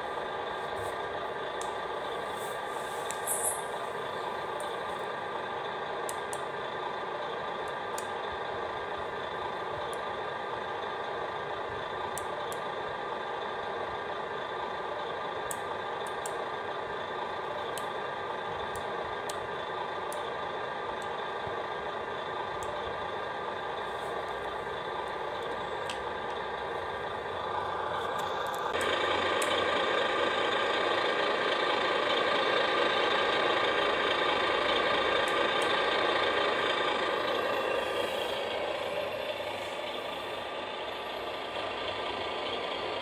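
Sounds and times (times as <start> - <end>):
truck diesel idle through small speaker: 0.0 - 43.0.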